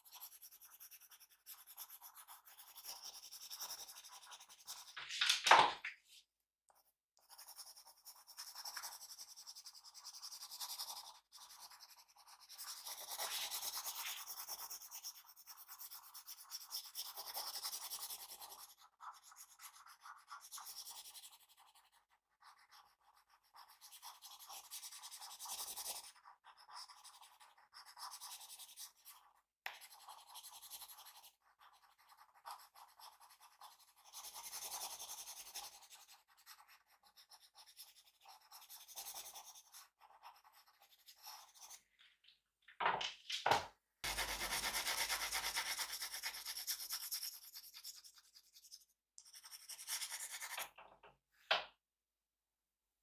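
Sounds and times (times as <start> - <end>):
drawing tool scratching paper: 0.0 - 5.0, 6.7 - 41.8, 44.0 - 50.8.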